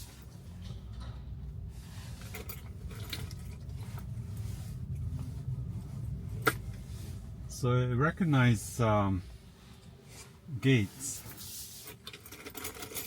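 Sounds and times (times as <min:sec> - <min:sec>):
car cabin rumble: 0:00.0 - 0:11.2.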